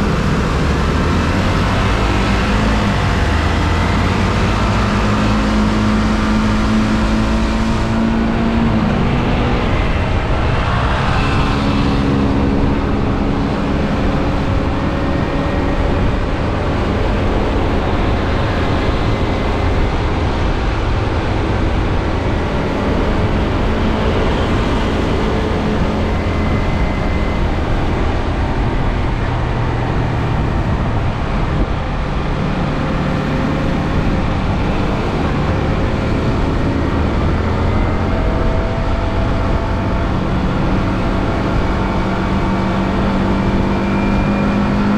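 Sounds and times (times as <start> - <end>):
rushing noise: 0.0 - 44.9.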